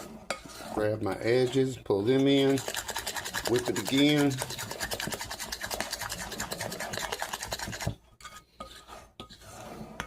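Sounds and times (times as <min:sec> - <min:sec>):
batter beaten in mixing bowl: 0:00.0 - 0:10.0.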